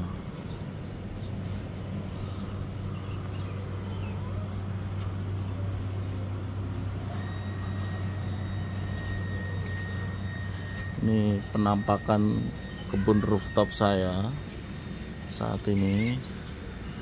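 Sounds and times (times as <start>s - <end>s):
faint high whine: 0.0s - 17.0s
low electric hum: 0.0s - 17.0s.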